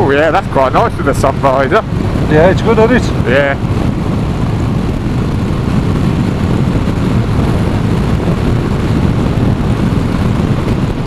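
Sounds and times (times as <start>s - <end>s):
motorcycle engine rumble: 0.0s - 11.0s
wind noise: 0.0s - 11.0s.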